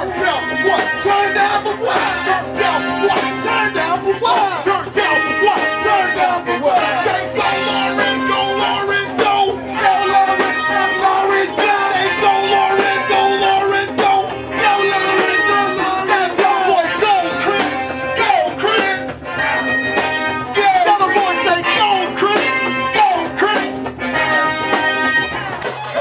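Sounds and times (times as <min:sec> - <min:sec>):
electric guitar: 0:00.0 - 0:26.0
person singing: 0:00.0 - 0:26.0
r and b band music: 0:00.0 - 0:26.0.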